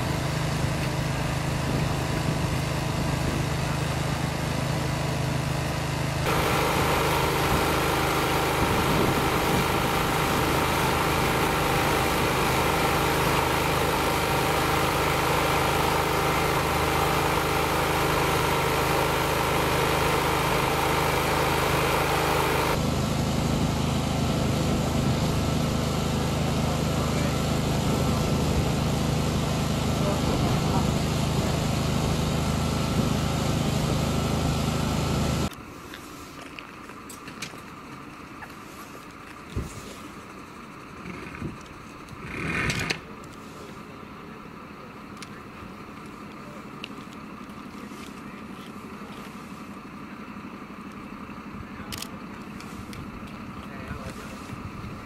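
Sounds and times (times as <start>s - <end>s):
vehicle engine idling: 0.0s - 42.4s, 43.0s - 55.0s.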